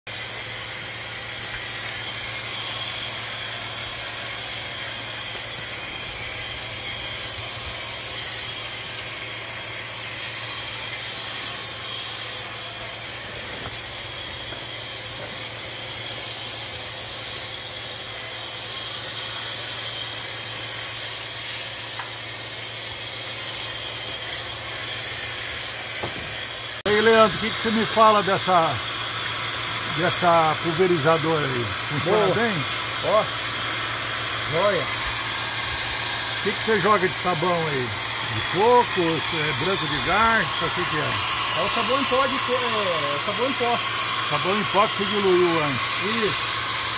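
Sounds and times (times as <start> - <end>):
pressure washer spray hiss: 0.1 - 46.9.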